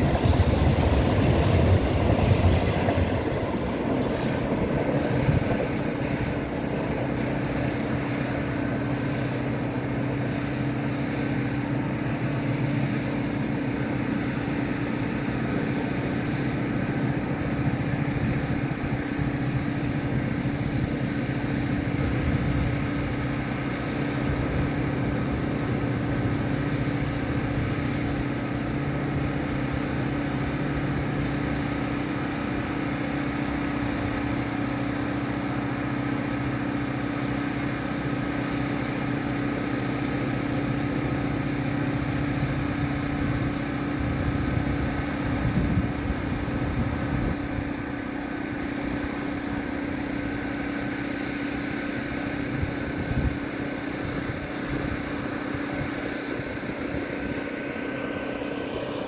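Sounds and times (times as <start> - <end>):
distant freight train drone: 0.0 - 59.0.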